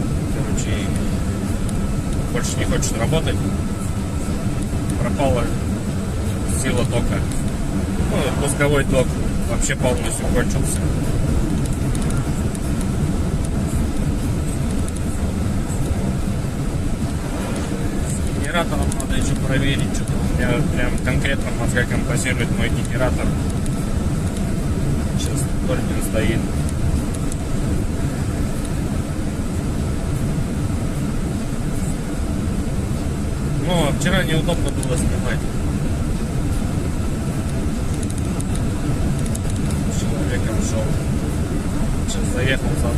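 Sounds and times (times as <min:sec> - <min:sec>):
road and tyre noise: 0:00.0 - 0:42.9
van engine drone: 0:00.0 - 0:42.9.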